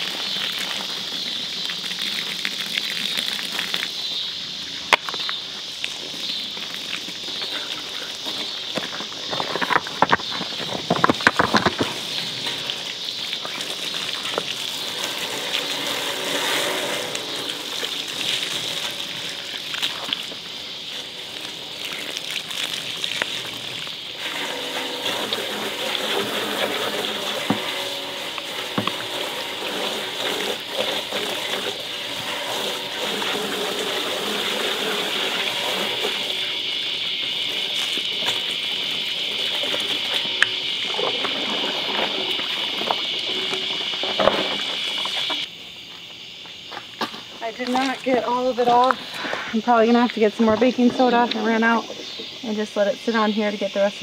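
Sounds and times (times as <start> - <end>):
hose water splashing on metal drum: 0.0 - 45.8, 46.7 - 54.0.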